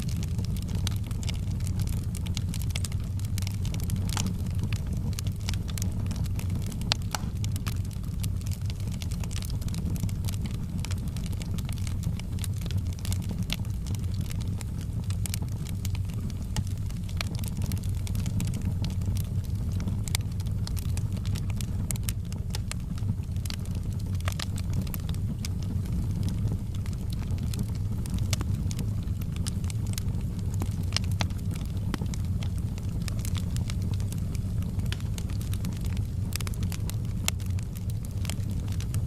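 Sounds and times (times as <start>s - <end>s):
logs crackling and popping: 0.0s - 39.0s
wood fire rumbling: 0.0s - 39.0s.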